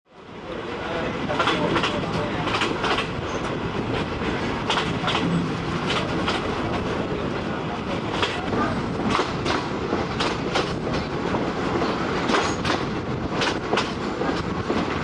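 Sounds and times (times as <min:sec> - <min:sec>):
train wheels rumbling on rail: 0:00.1 - 0:15.0
wheels clickety-clack on rail joints: 0:00.3 - 0:15.0.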